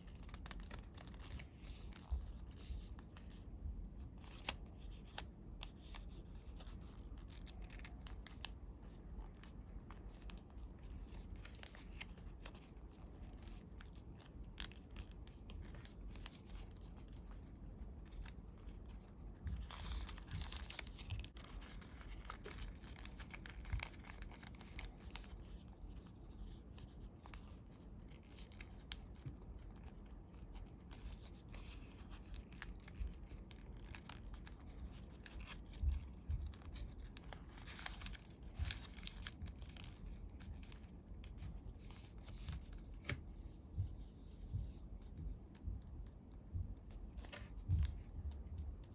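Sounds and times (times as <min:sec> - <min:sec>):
paper folding and rustling: 0:00.0 - 0:45.4, 0:46.9 - 0:48.9.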